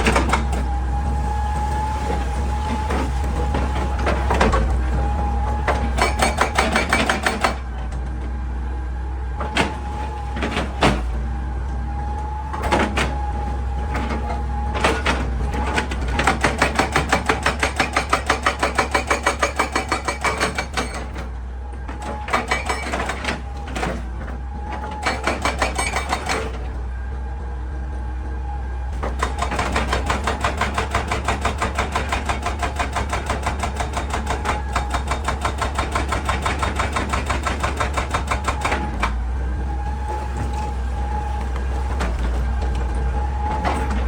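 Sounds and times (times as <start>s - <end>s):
hydraulic rock breaker hammering rock: 0.0s - 8.4s, 9.4s - 26.9s, 28.2s - 44.0s
excavator running: 0.0s - 44.0s.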